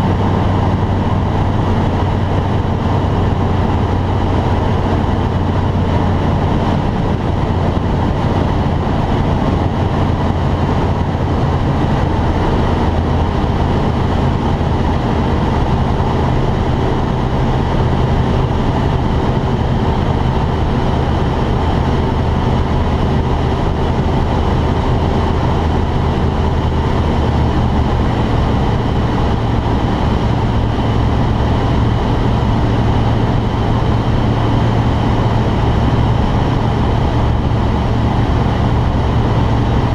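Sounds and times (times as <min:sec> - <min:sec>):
aircraft engine and propeller drone: 0:00.0 - 0:39.9
airflow noise: 0:00.0 - 0:39.9.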